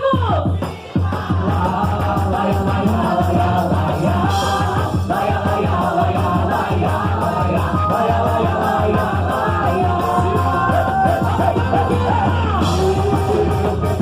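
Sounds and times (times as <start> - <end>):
loud folk dance music: 0.0 - 14.0
person singing: 1.4 - 14.0.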